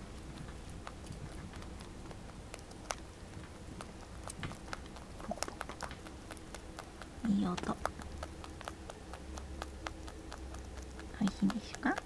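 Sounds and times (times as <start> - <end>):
rabbit chewing hay: 0.0 - 12.0.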